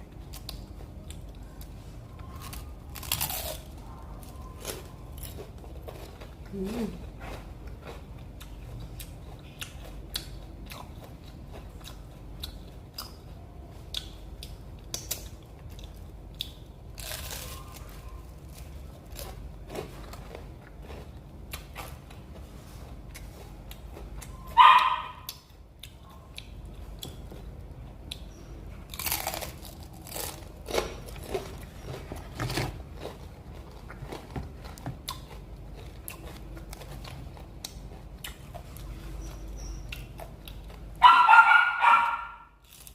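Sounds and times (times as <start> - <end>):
chewing crispy fritters: 0.0 - 41.0, 42.6 - 42.9.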